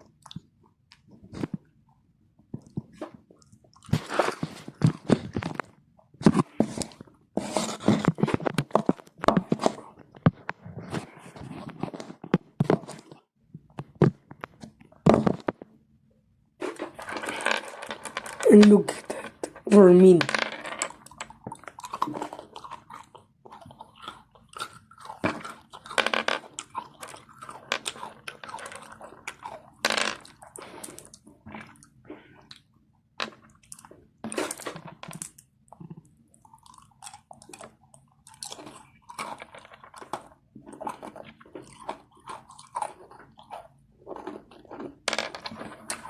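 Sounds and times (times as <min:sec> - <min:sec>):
person chewing crunchy cookies: 0:02.6 - 0:13.2, 0:16.6 - 0:46.0.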